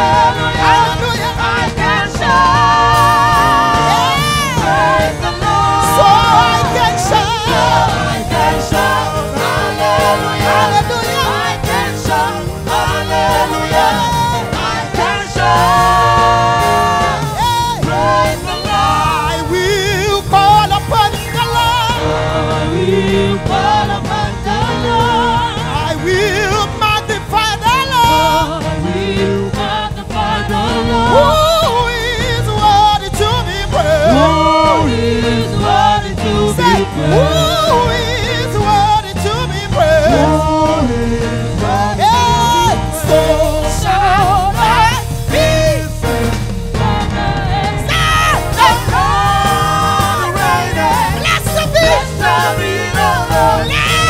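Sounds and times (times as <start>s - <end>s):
amplified church band: 0.0s - 54.0s
singers singing gospel: 0.0s - 54.0s.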